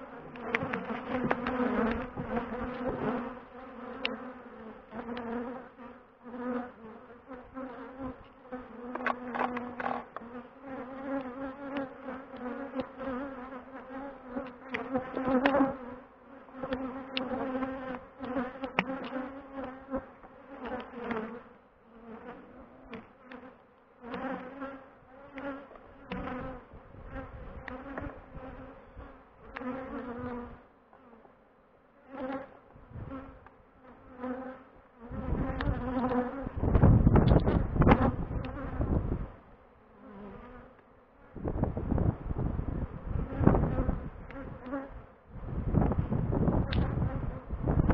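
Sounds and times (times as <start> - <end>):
honeybees buzzing: 0.0 - 47.9.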